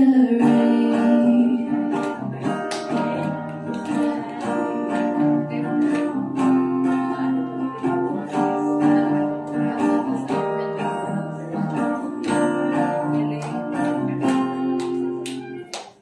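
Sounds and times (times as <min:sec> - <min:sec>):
acoustic guitar strumming: 0:00.0 - 0:15.8.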